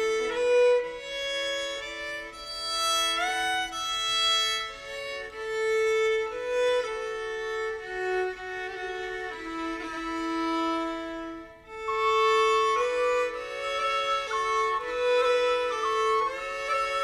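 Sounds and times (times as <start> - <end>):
fiddle playing slow melody: 0.0 - 17.0.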